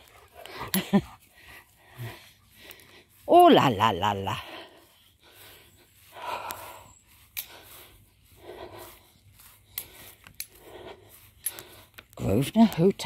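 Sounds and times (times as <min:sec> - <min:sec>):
footsteps on grass: 0:00.0 - 0:13.0.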